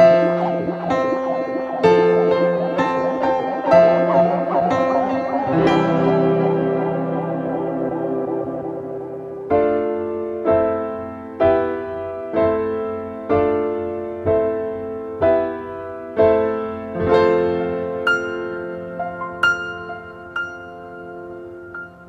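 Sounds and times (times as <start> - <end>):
keyboard piano chords: 0.0 - 22.0.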